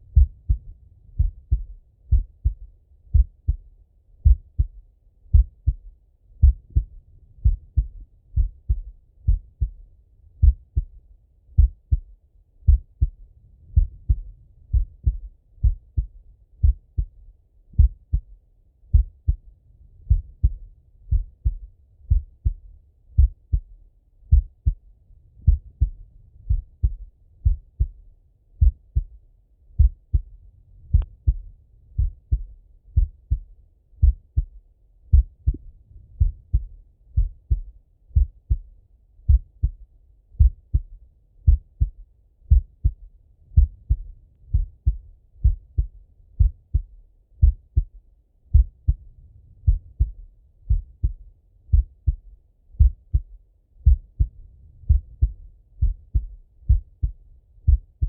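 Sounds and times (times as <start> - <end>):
heartbeat through stethoscope: 0.0 - 58.0.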